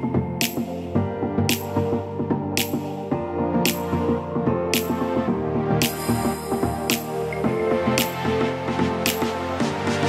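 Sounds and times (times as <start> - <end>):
electronic music with held chords: 0.0 - 10.0.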